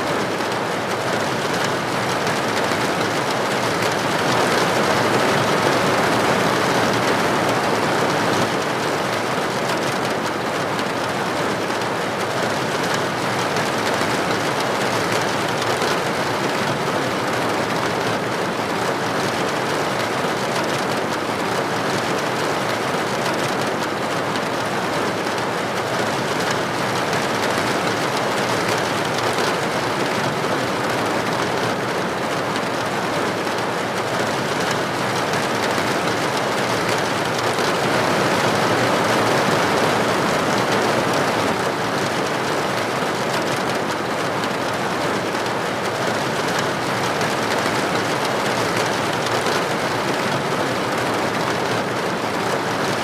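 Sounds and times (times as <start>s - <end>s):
rain falling: 0.1s - 53.0s.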